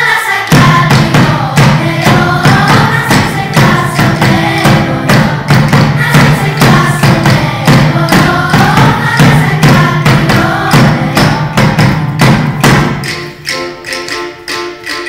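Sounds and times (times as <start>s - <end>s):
children's choir singing: 0.0s - 15.0s
instrumental accompaniment: 0.0s - 15.0s
large drum beat: 0.5s - 13.1s.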